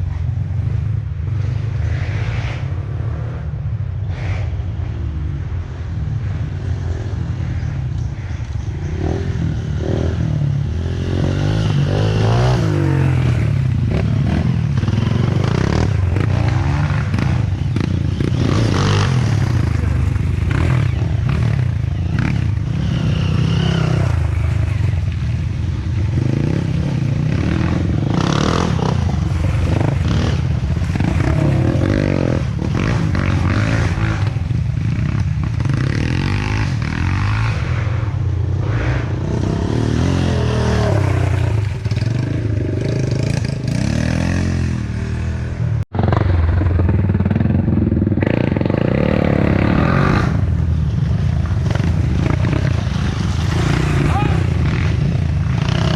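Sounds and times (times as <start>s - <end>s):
motorcycle engines revving: 0.0s - 55.9s.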